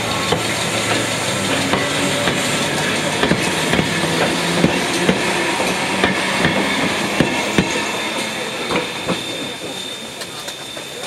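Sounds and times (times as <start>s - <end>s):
train wheels clacking over rail joints: 0.0s - 11.0s.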